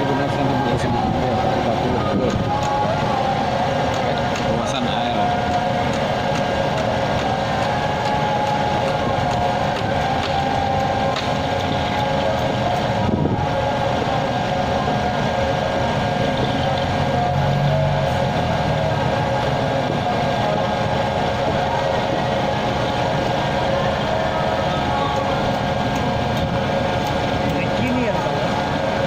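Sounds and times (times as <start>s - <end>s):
heavy engine running: 0.0s - 29.0s.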